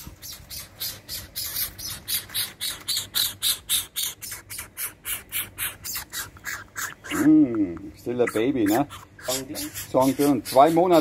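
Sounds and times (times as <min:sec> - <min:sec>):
young bird hissing begging calls: 0:00.2 - 0:11.0.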